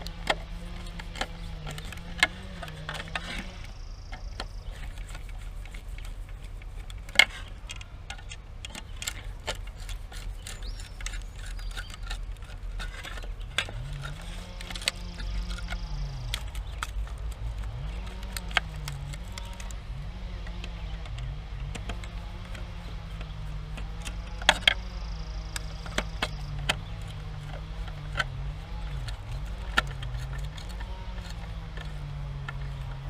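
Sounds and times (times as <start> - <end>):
engine droning: 0.0 - 33.0
small clicks and taps: 0.0 - 33.0.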